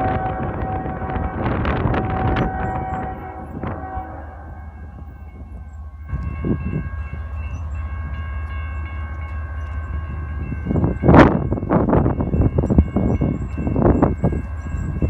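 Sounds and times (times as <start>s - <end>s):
diesel locomotive rumble: 0.0s - 15.0s
wind buffeting microphone: 0.0s - 15.0s.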